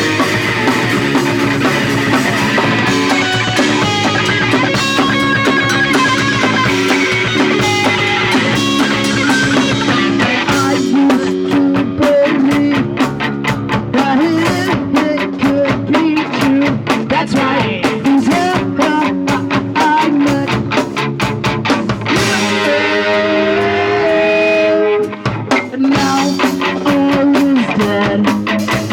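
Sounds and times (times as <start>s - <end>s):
drum kit: 0.0s - 28.9s
electric guitar chords: 0.0s - 28.9s.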